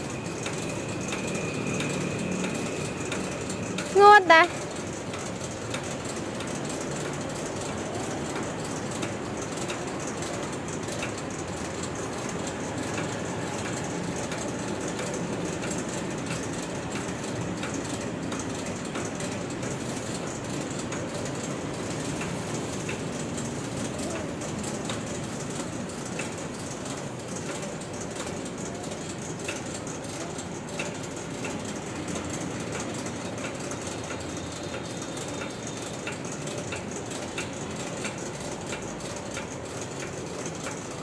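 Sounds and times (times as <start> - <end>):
conveyor belt rumbling: 0.0 - 41.0.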